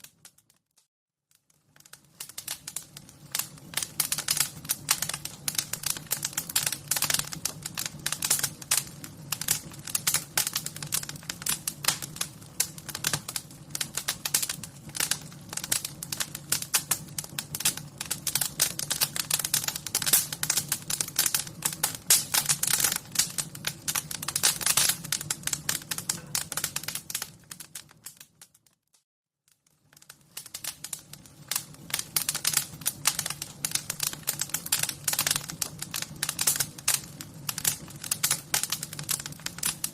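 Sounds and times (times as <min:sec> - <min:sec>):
wood fire crackling: 0:00.0 - 0:00.6, 0:01.3 - 0:28.8, 0:29.5 - 0:39.9.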